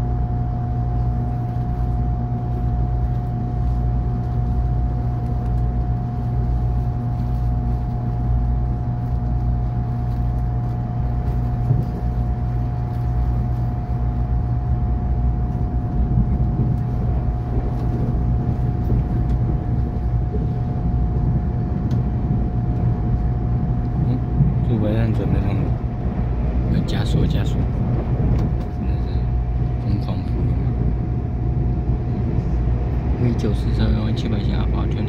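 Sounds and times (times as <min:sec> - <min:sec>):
constant hum: 0:00.0 - 0:35.0
train wheels rumbling on rails: 0:00.0 - 0:35.0.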